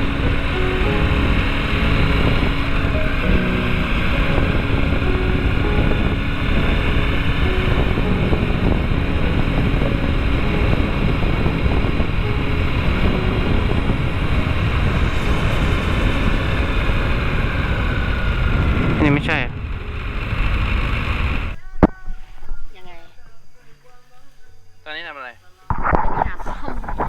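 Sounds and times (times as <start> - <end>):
wind buffeting on microphone: 0.0 - 22.8, 25.7 - 27.0.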